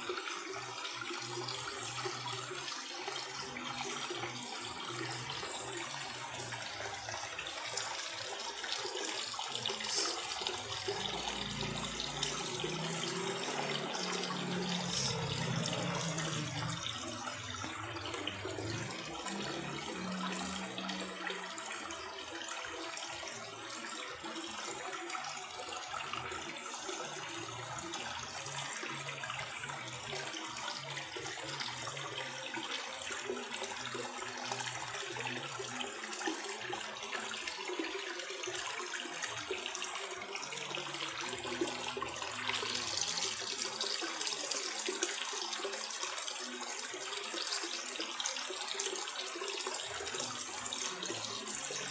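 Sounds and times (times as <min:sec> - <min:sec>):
water splashing and trickling: 0:00.0 - 0:51.9.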